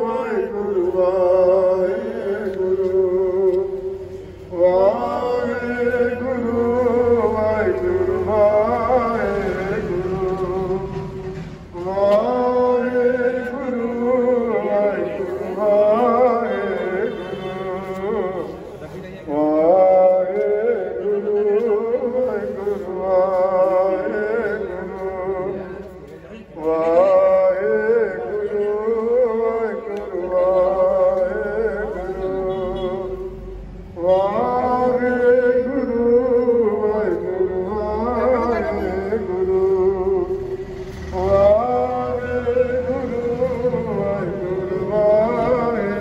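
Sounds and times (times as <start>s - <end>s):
man singing a slow chant: 0.0s - 46.0s.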